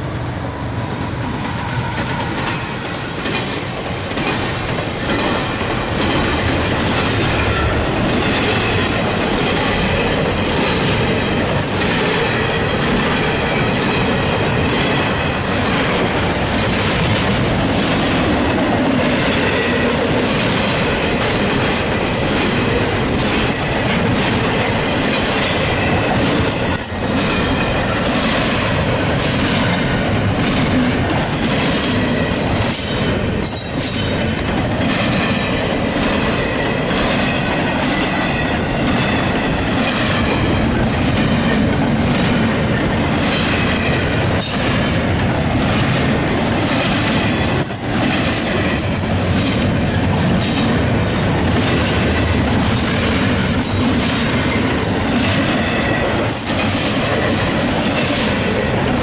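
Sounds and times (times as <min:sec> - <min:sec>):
train wheels rumbling on rail: 0:00.0 - 0:59.0
rail joint clack: 0:01.2 - 0:59.0.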